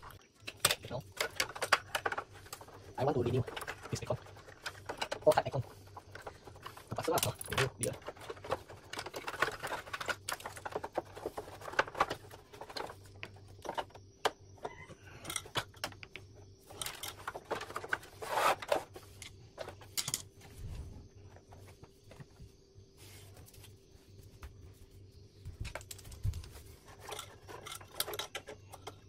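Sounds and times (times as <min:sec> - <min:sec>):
plastic and metal parts rattling: 0:00.0 - 0:20.5, 0:25.5 - 0:29.0.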